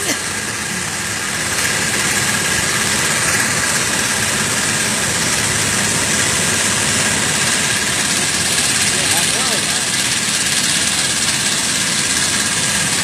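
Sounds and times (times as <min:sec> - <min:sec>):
raft engine droning: 0:00.0 - 0:13.0.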